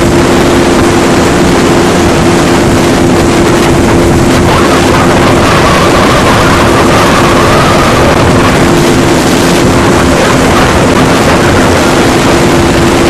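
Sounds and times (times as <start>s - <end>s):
ship engines droning: 0.0s - 13.0s
wind noise on microphone: 0.0s - 13.0s.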